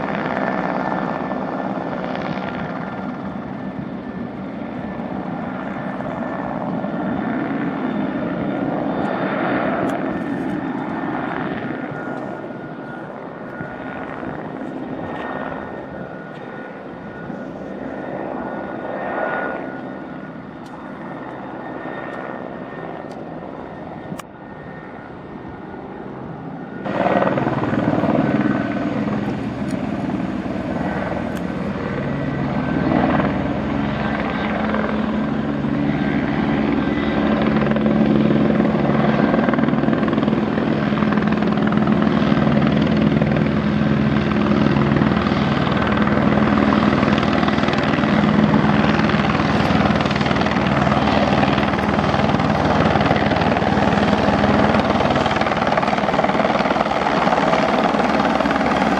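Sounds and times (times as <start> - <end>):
helicopter rotor noise: 0.0 - 58.9
helicopter turbine whine: 0.0 - 58.9.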